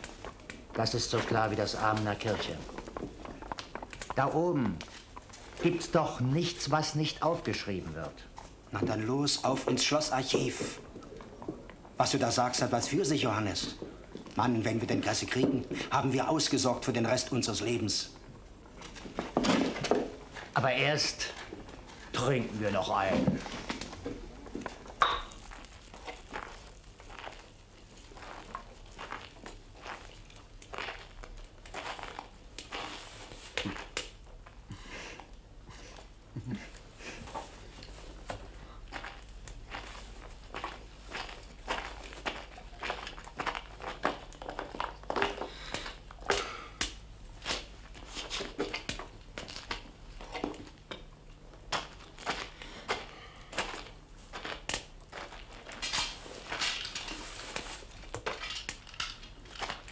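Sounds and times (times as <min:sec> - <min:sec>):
quiet crackles and rustles: 0:00.0 - 0:59.9.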